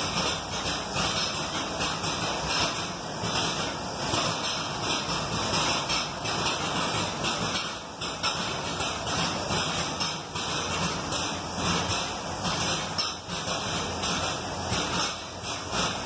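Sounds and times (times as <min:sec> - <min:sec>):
diaphragm pumps air exhaust hissing: 0:00.0 - 0:16.0.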